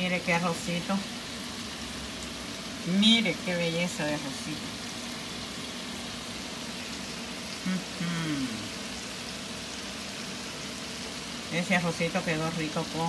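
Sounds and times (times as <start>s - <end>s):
shrimp sizzling on a griddle: 0.0s - 13.0s.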